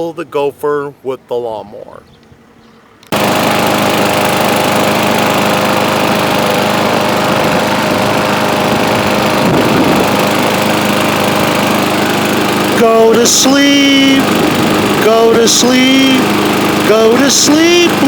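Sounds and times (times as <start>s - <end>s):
lawn mower engine running: 3.0s - 18.0s.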